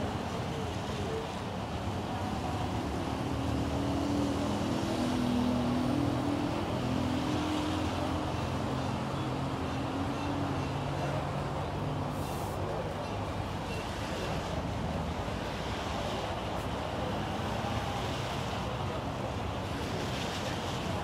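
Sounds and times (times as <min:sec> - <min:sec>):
road traffic engines: 0:00.0 - 0:21.0.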